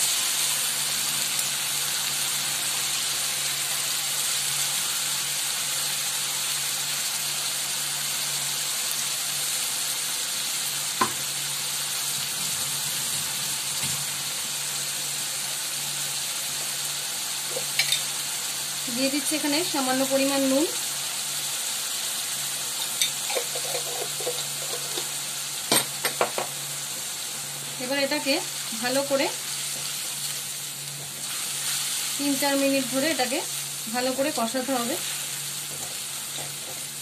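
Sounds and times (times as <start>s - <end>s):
paste sizzling in hot oil: 0.0s - 37.0s.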